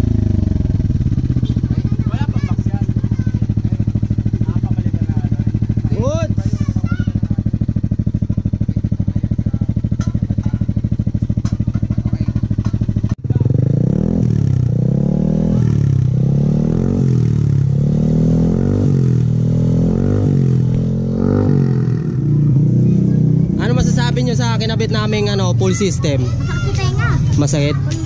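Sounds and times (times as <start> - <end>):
scooter engine idling and revving: 0.0 - 28.0.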